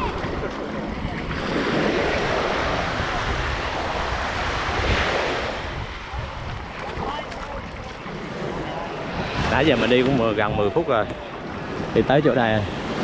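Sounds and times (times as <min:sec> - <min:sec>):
surf washing onto sand: 0:00.0 - 0:13.0
wind buffeting microphone: 0:00.0 - 0:13.0.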